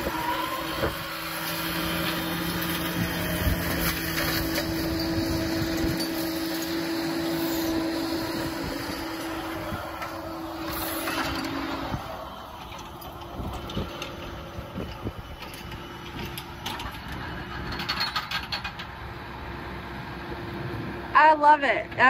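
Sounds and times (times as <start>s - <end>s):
flail mower mechanical noise: 0.0s - 22.0s.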